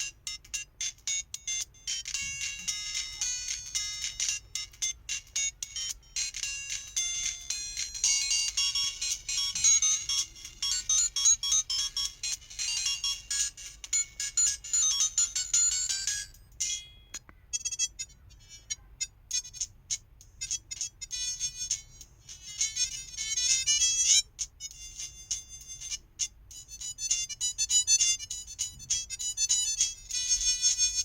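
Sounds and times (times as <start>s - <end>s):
electronic phone ringtone: 0.0s - 31.0s.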